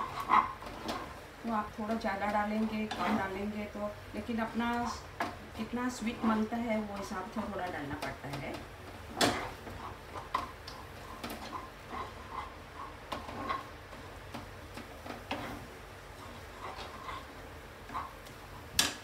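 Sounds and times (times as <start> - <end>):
spatula tapping and scraping pan: 1.8 - 3.8, 4.4 - 19.0.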